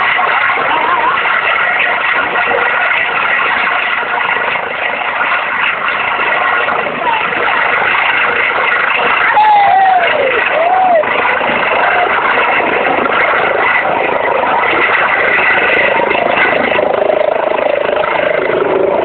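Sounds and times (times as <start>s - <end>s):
helicopter rotor and engine: 0.0s - 19.0s.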